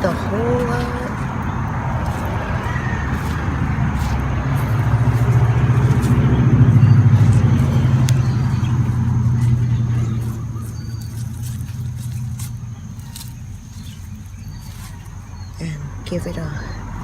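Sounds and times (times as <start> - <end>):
motor vehicle passing: 0.0 - 17.0.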